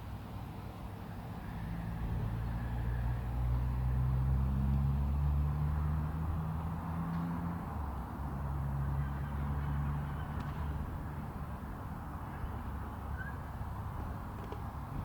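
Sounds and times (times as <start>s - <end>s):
vehicle engine humming by: 0.2s - 15.0s.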